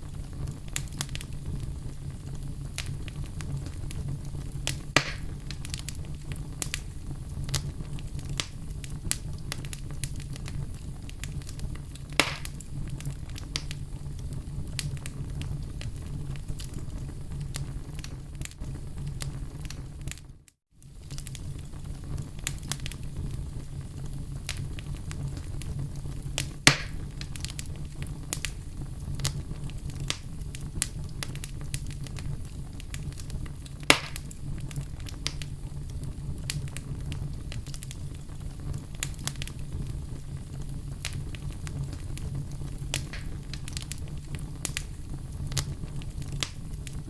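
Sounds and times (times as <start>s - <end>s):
wood fire crackling: 0.0s - 47.0s
loud sharp fire pops: 0.2s - 20.2s, 24.4s - 47.0s.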